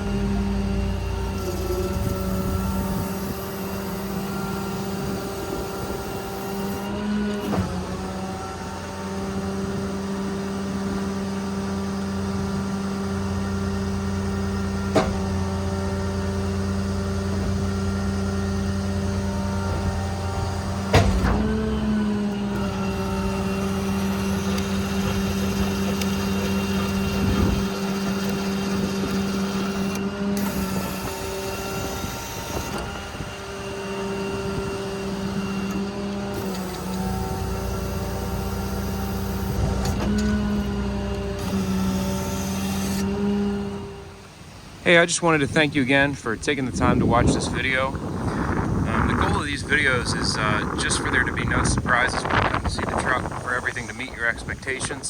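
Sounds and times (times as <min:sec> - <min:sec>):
truck diesel engine running: 0:00.0 - 0:44.3
hydraulic equipment humming: 0:00.0 - 0:55.0.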